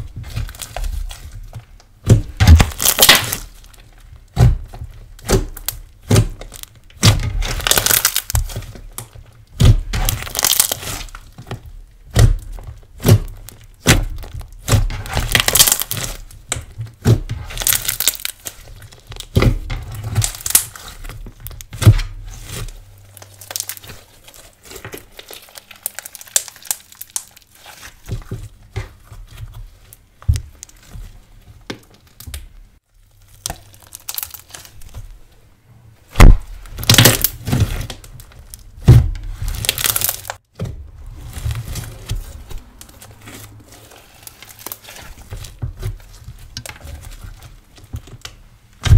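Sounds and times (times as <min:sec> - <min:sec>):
slime squishing: 0:00.0 - 0:35.4, 0:36.0 - 0:48.9.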